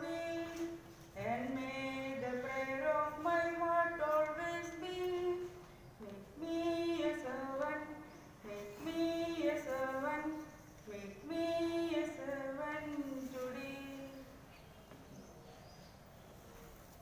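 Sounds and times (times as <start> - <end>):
woman singing slow melody: 0.0 - 14.4.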